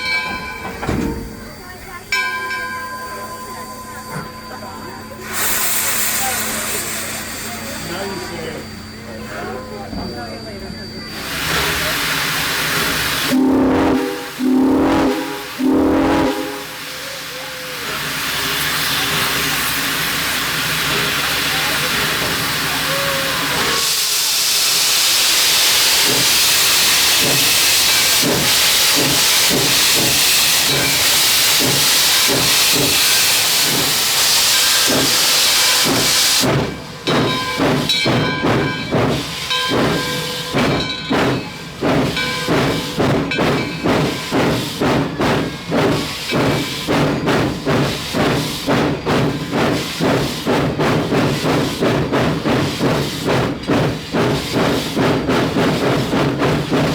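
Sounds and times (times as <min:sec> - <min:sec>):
steam locomotive hissing: 0:00.0 - 0:56.9.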